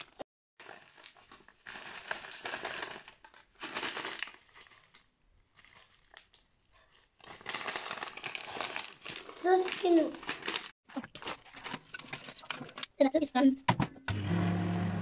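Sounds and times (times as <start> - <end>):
paper bag crinkling: 0.0 - 12.9.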